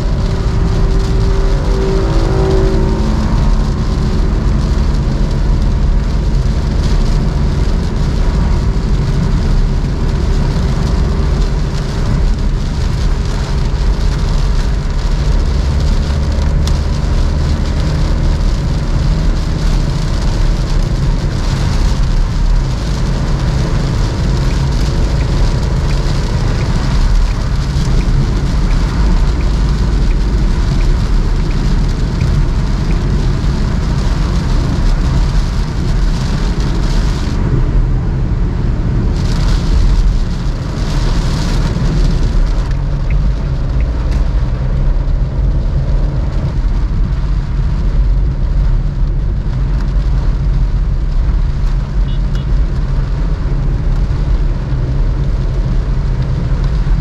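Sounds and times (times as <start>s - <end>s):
rain and tyres on wet road: 0.0s - 57.0s.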